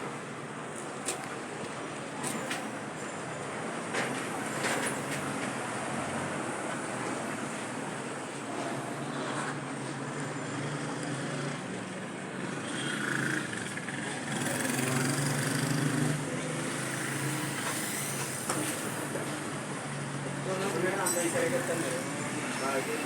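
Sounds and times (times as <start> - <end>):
street noise: 0.0 - 23.0
vehicle engines running: 3.6 - 23.0.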